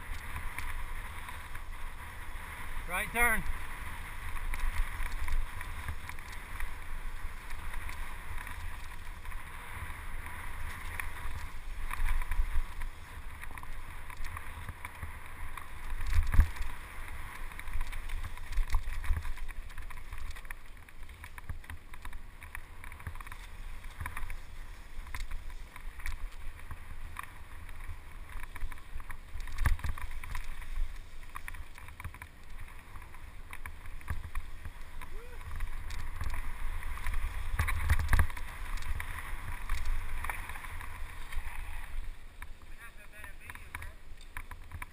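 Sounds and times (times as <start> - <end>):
bike tyres rolling on dirt: 0.0 - 44.9
bike jolting over bumps: 2.6 - 42.3.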